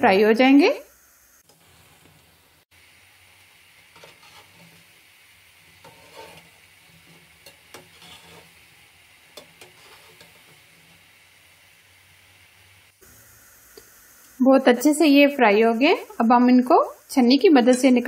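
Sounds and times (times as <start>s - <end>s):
food deep-frying in hot oil: 0.0s - 18.0s.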